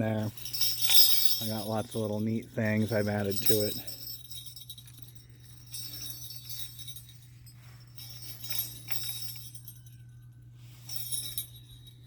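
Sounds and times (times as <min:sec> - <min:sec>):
jingle bells jingling: 0:00.0 - 0:12.0
low hum: 0:00.0 - 0:12.0.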